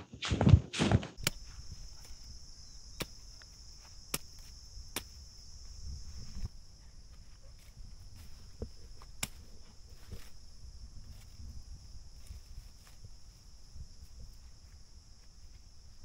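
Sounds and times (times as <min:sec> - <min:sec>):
heavy footsteps on grass: 0:00.0 - 0:16.0
high insect buzz: 0:01.2 - 0:16.0.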